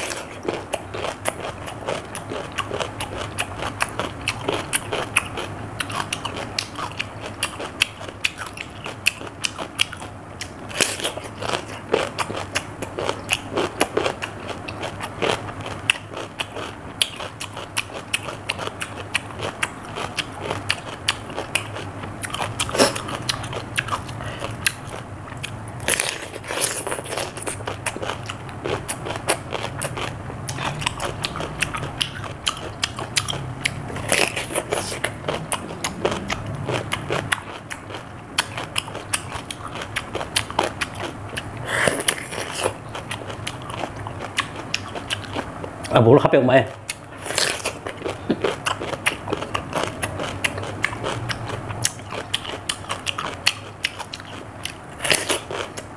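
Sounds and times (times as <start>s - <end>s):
person chewing cucumber: 0.0s - 55.9s.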